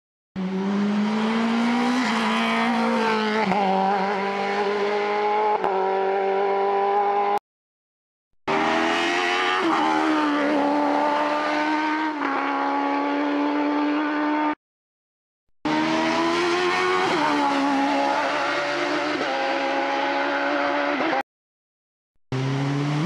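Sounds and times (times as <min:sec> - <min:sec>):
race car engine at high revs: 0:00.4 - 0:07.4, 0:08.5 - 0:14.6, 0:15.7 - 0:21.2, 0:22.3 - 0:23.0.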